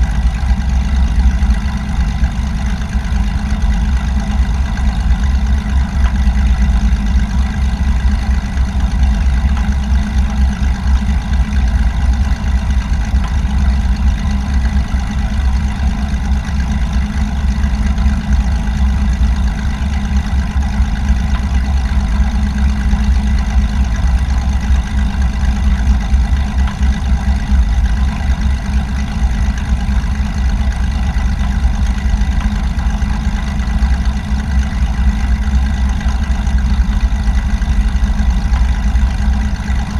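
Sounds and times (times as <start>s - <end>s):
small airplane engine droning: 0.0s - 39.9s.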